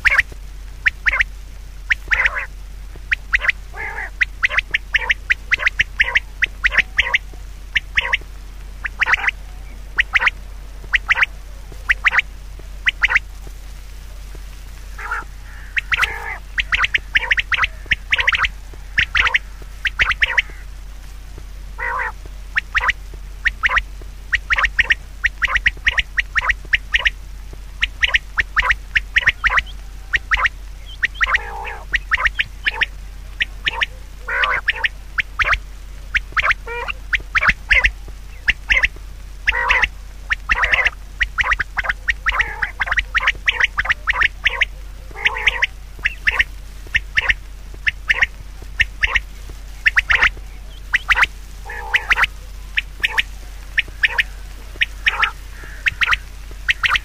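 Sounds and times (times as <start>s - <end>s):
short sharp animal calls: 0.0s - 1.3s, 1.9s - 13.4s, 14.3s - 20.8s, 21.7s - 27.2s, 27.8s - 57.0s
steady low hum: 0.0s - 57.0s.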